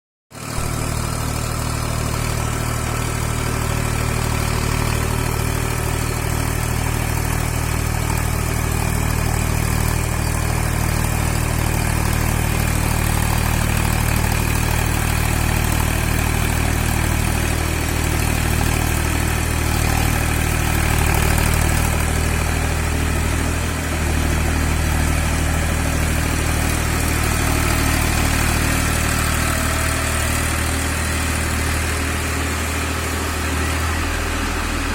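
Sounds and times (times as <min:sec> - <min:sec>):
diesel tractor engine idling: 0:00.4 - 0:34.9.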